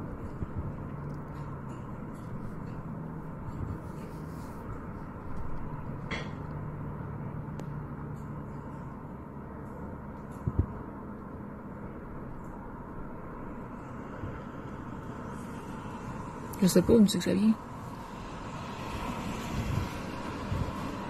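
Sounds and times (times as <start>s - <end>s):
low droning hum: 0.0s - 21.0s
outdoor rumble: 0.0s - 21.0s.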